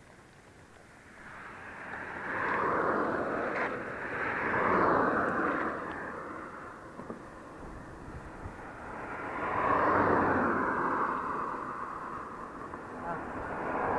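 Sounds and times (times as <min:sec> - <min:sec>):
vehicles passing close by: 0:00.0 - 0:13.9.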